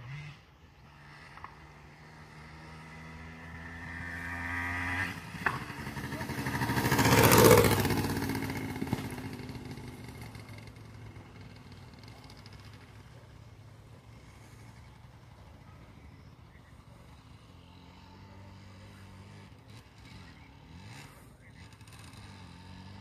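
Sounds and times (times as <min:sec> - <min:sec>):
two-stroke motorcycle passing: 0:00.0 - 0:23.0.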